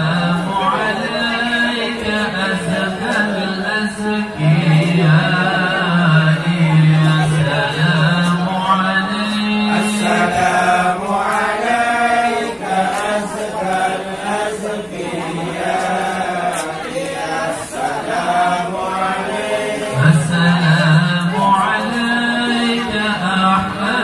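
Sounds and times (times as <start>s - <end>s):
group of men chanting: 0.0s - 24.0s.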